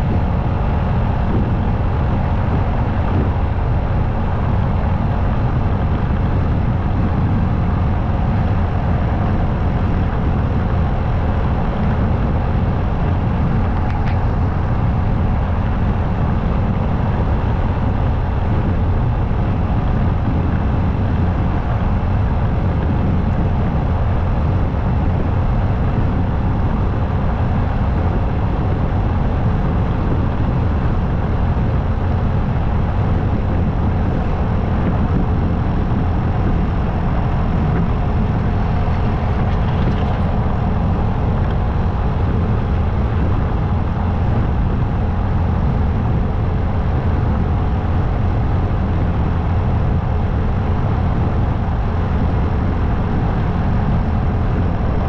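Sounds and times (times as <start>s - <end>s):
motorcycle riding at speed: 0.0s - 55.0s.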